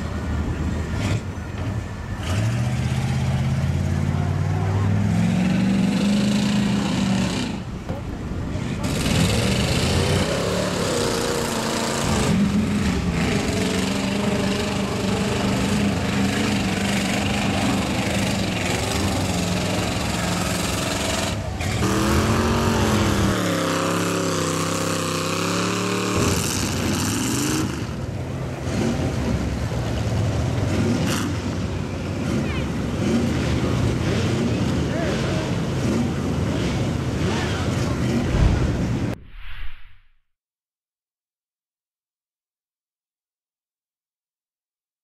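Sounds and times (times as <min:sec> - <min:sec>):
truck engines revving: 0:00.0 - 0:39.2
tyres churning through mud: 0:00.0 - 0:39.2.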